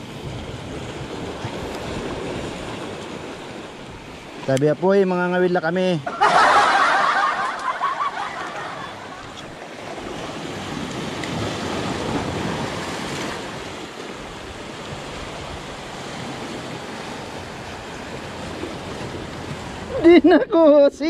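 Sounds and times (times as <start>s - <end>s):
surf breaking over rocks: 0.0s - 21.0s.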